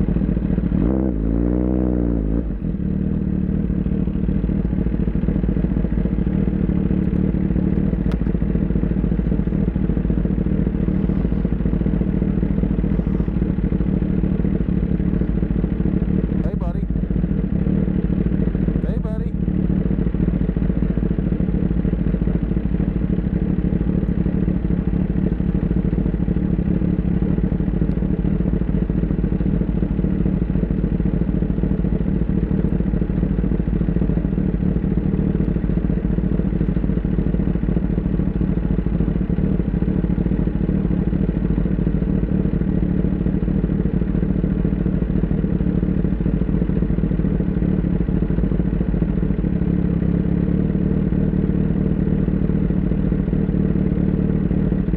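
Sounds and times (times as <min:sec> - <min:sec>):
motorcycle engine running steadily: 0:00.0 - 0:54.9.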